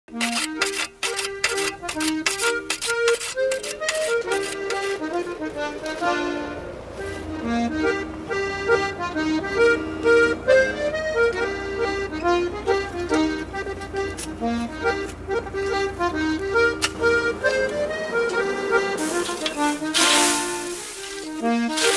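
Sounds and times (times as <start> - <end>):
lively accordion tune: 0.1 - 21.9.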